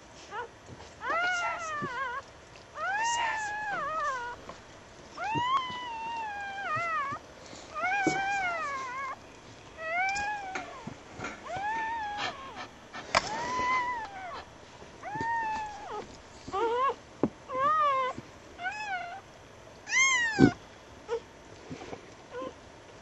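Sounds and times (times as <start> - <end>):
puppy mewing cries: 0.3 - 4.4, 5.2 - 9.2, 9.8 - 21.3.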